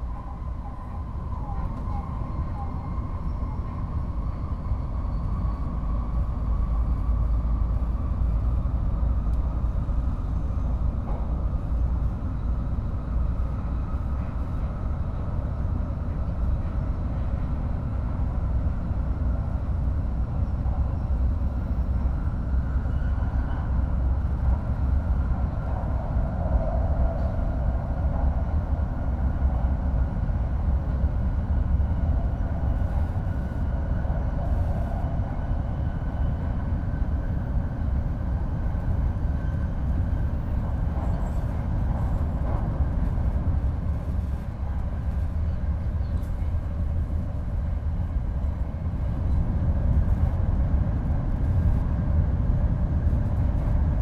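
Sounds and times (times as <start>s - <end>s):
train rumble inside passenger car: 0.0s - 54.0s.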